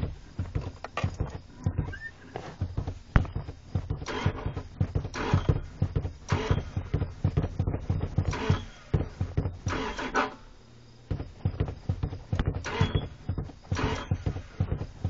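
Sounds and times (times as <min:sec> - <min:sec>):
car pedals thumping and clicking: 0:00.0 - 0:10.3, 0:11.1 - 0:15.0.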